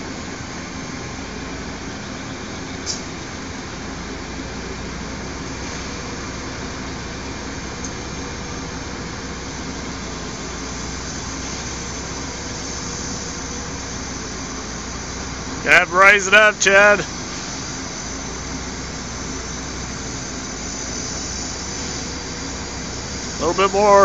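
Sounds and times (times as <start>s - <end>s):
forklift engine idling: 0.0s - 24.0s.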